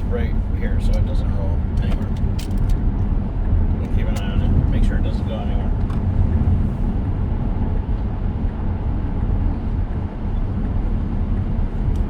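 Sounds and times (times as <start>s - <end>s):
road and tyre noise in car: 0.0s - 12.0s.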